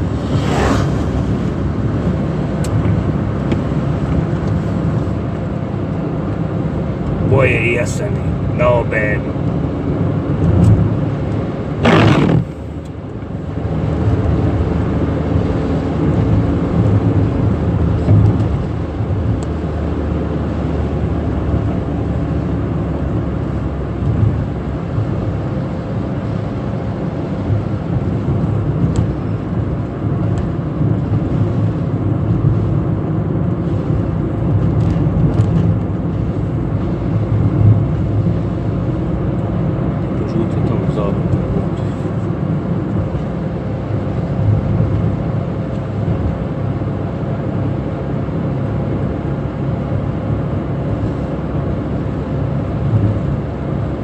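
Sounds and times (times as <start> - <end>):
car cabin engine and road noise: 0.0 - 54.0.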